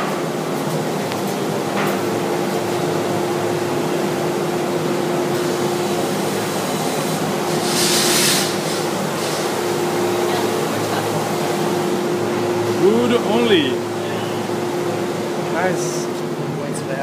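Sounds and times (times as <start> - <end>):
machinery and ventilation hum: 0.0 - 17.0.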